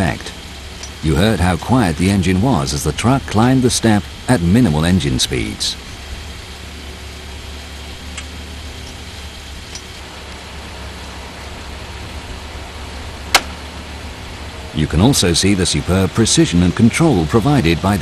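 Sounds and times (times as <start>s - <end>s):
forklift engine idling: 0.0s - 18.0s.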